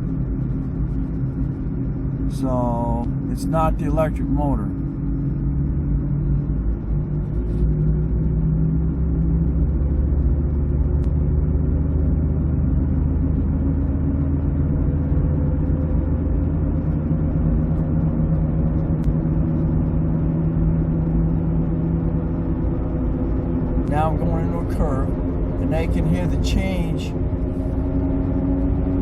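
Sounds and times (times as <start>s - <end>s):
road noise inside car: 0.0s - 29.0s.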